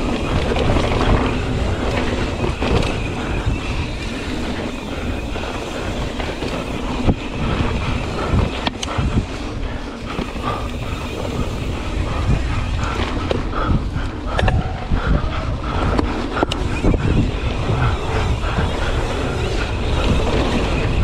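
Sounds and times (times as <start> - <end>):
bike rattling over bumps: 0.0 - 21.0
tyres rumbling on dirt: 0.0 - 21.0
wind buffeting microphone: 0.0 - 21.0.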